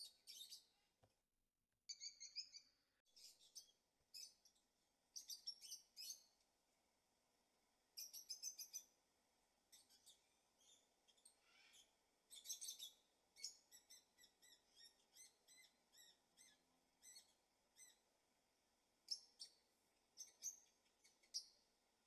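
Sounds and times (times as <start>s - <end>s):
small birds chirping: 0.0s - 0.8s, 1.9s - 6.4s, 7.9s - 9.0s, 9.6s - 18.2s, 19.0s - 21.8s.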